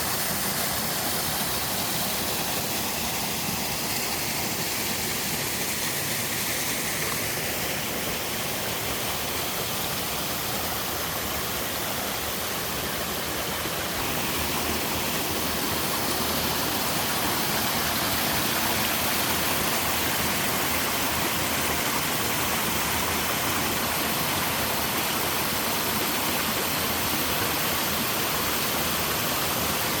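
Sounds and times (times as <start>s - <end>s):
small waterfall rushing: 0.0s - 30.0s.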